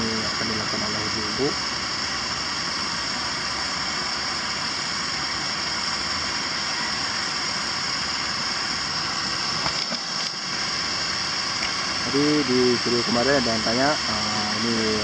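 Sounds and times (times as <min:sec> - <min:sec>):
gas burner hissing: 0:00.0 - 0:15.0.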